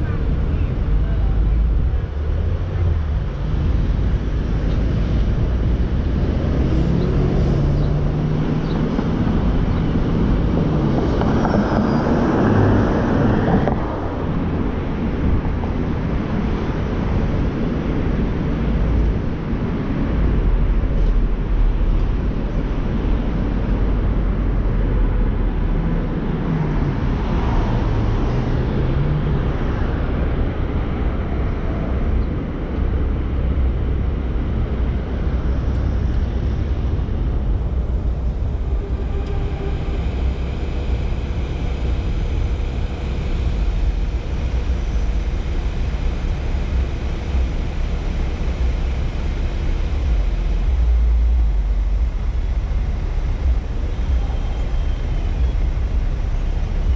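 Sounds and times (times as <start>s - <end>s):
car engine and tyres rumbling: 0.0s - 56.9s.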